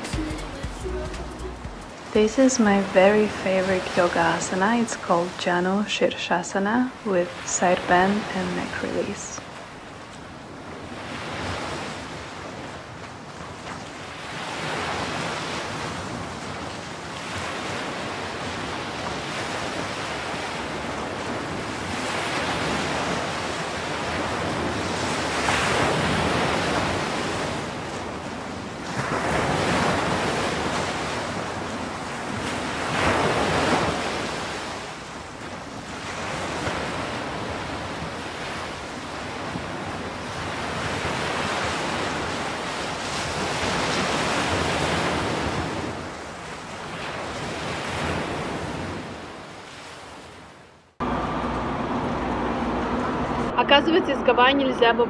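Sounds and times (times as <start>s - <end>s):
ocean surf breaking on beach: 0.0s - 53.6s.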